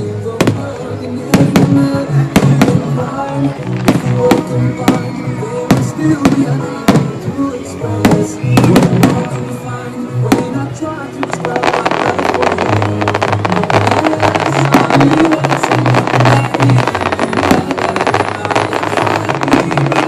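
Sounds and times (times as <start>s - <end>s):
fireworks bangs: 0.0s - 20.0s
song playing in background: 0.0s - 20.0s.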